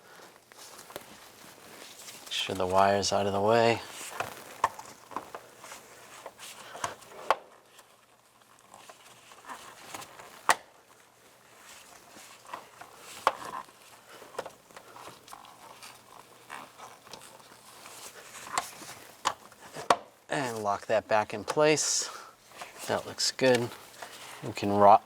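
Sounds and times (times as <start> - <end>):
rustling of plastic and wire: 0.0 - 25.0.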